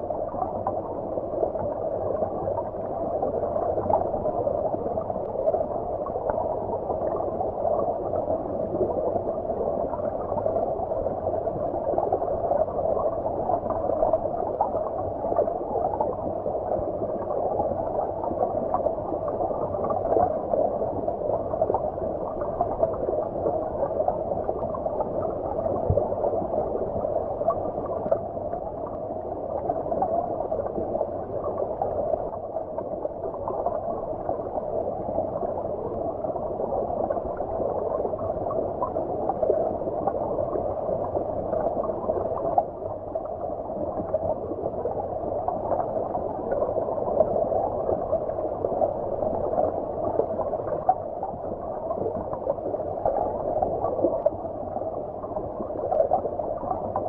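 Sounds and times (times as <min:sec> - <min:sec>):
muffled underwater stream gurgling: 0:00.0 - 0:57.0.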